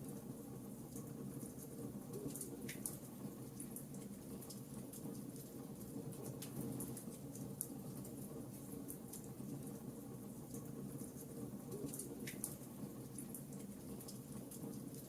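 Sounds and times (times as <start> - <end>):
wood fire crackling: 0.1 - 15.0.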